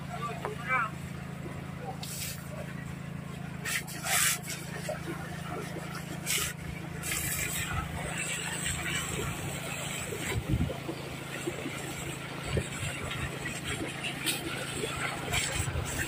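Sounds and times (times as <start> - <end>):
small engine humming: 0.0 - 16.0
hose water spraying and splashing: 1.9 - 16.0.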